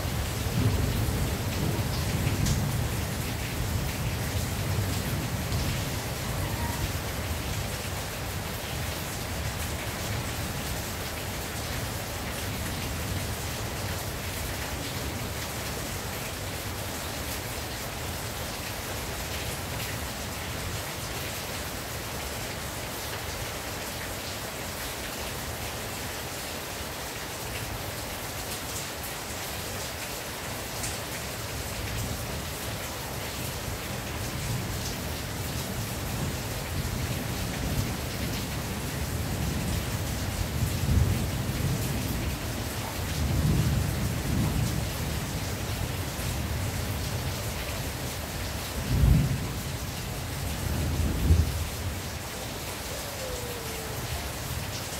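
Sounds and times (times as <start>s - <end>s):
rain on a tin roof: 0.0s - 54.9s.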